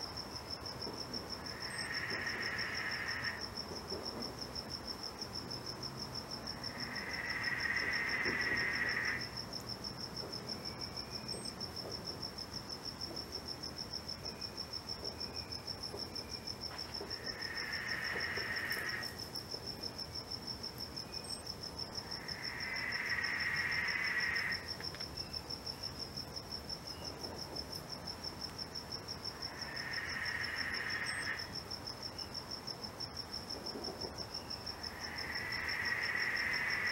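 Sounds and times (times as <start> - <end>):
cricket trilling: 0.0 - 36.9
lower insect call: 0.0 - 36.9.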